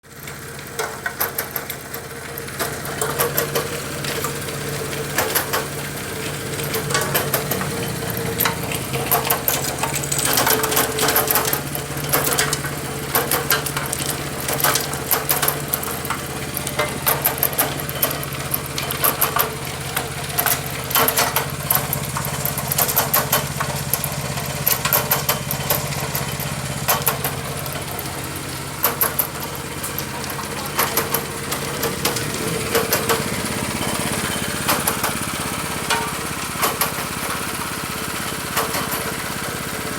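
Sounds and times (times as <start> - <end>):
mixing machine humming: 0.0 - 39.9
sharp knocks and clatter: 0.7 - 39.6.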